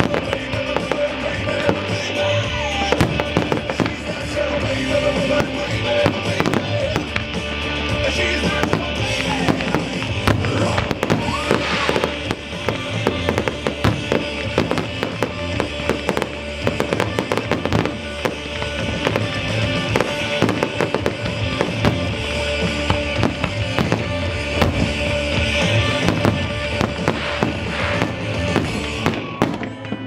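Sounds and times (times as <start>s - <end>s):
fireworks bangs and crackle: 0.0s - 30.0s
music: 0.0s - 30.0s.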